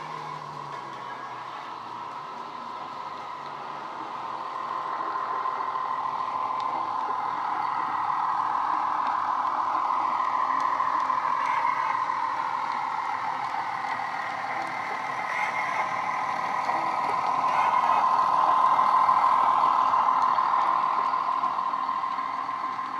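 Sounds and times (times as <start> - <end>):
model train diesel engine sound: 0.0 - 22.9.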